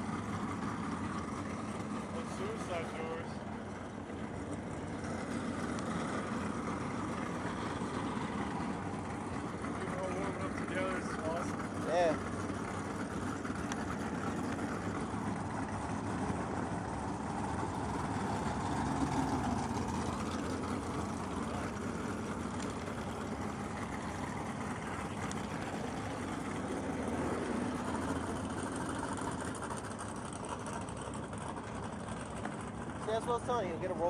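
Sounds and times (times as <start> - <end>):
car engines idling: 0.0 - 34.0.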